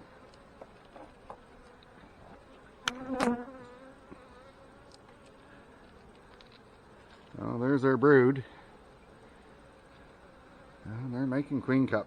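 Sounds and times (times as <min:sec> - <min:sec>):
bees buzzing: 0:00.0 - 0:11.8.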